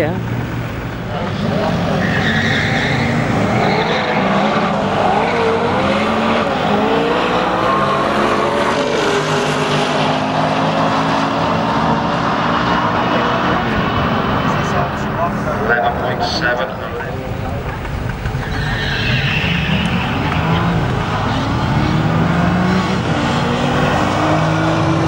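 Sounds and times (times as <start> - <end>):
cars accelerating hard: 0.0 - 25.0.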